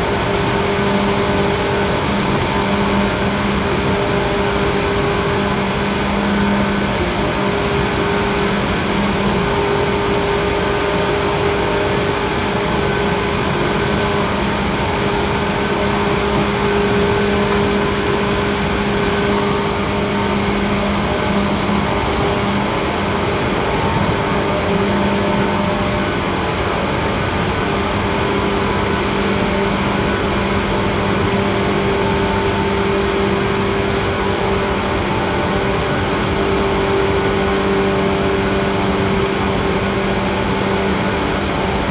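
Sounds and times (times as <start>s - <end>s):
low running gear hum: 0.0s - 41.9s.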